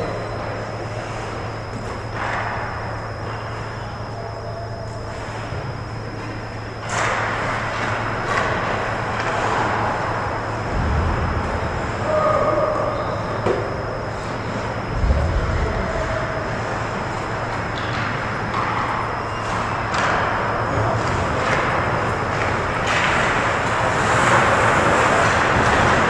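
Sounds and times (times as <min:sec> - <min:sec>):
low hum of arena: 0:00.0 - 0:26.0.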